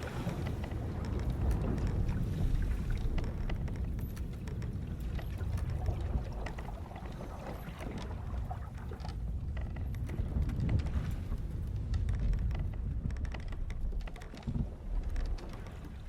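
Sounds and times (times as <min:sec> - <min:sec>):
ship timbers creaking: 0:00.0 - 0:16.0
water and wind around hull: 0:00.0 - 0:16.0.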